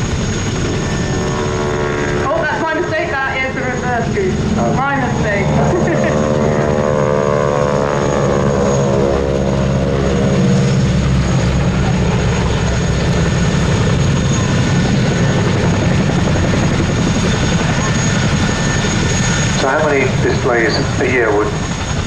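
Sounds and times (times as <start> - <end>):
biplane engines droning: 0.0 - 22.0.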